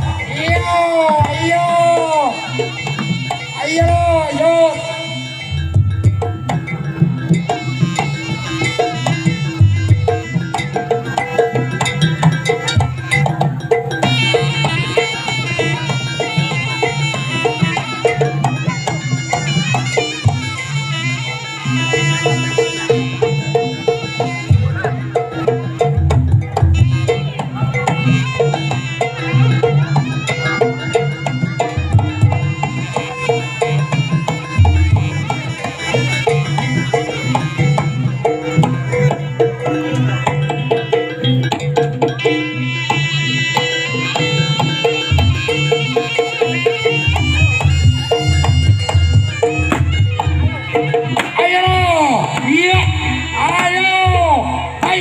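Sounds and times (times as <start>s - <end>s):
reedy wailing shawm melody: 0.0s - 25.8s, 26.6s - 55.0s
hand drums beating: 0.0s - 55.0s.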